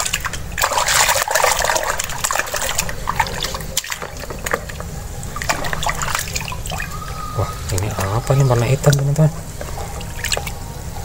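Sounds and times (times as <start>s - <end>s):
hand sloshing water in basin: 0.0s - 9.2s.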